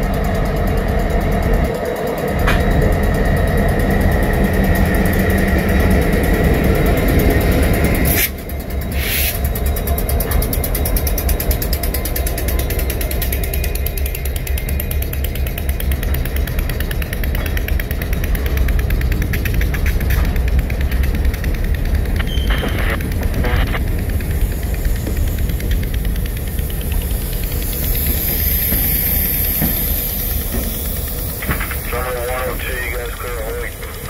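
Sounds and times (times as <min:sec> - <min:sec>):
diesel locomotive rumbling: 0:00.0 - 0:34.0.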